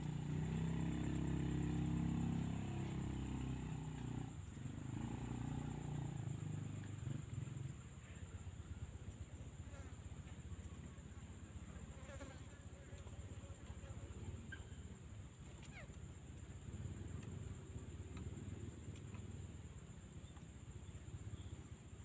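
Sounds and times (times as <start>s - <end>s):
high insect whine: 0.0s - 22.0s.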